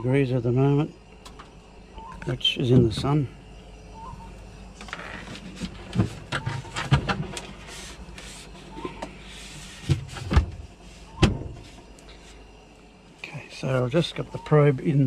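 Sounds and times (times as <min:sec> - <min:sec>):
fridge low hum: 0:00.0 - 0:15.0.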